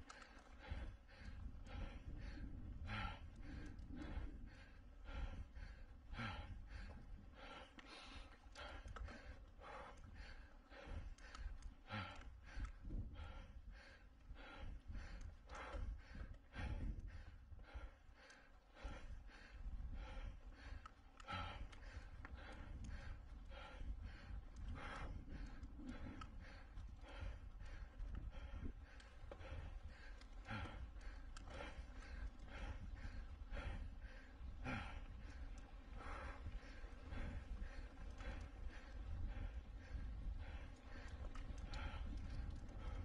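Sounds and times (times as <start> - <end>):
person breathing hard: 0.0 - 43.0.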